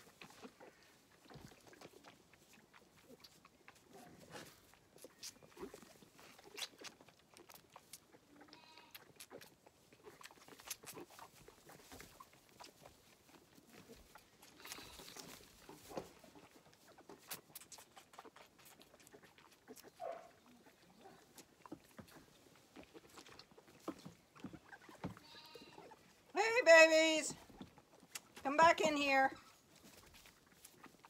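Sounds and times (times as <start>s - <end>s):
lamb sucking at bottle teat: 0.0s - 26.3s, 27.4s - 28.4s, 29.3s - 31.0s.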